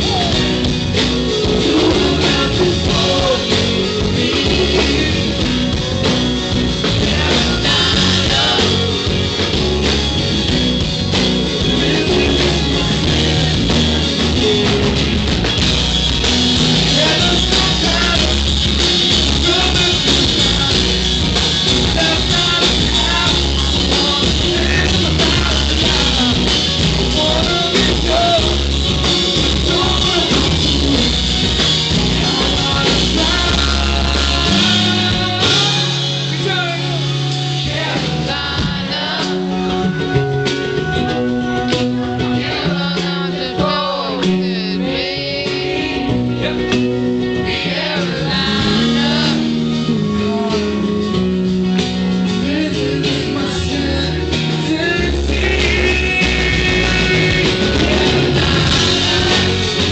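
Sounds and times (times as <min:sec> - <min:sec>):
live band playing pop-rock: 0:00.0 - 0:59.9
man singing: 0:00.0 - 0:59.9
strummed acoustic guitars: 0:00.0 - 0:59.9.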